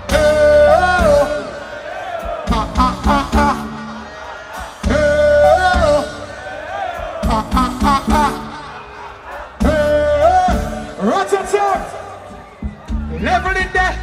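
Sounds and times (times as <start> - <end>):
live reggae band with heavy bass: 0.0 - 14.0.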